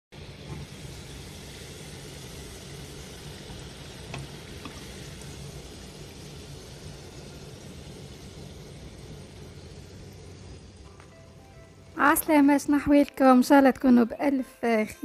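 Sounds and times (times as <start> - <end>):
hot oil sizzling: 0.1 - 13.5.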